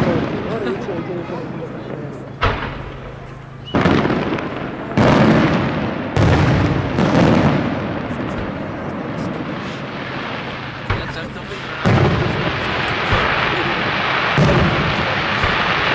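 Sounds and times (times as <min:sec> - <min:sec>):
loud firework bursts: 0:00.0 - 0:15.9
rolling rumble and crackle: 0:00.0 - 0:15.9.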